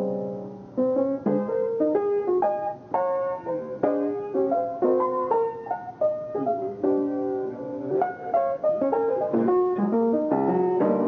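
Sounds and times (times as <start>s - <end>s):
jazz piano: 0.0s - 11.0s.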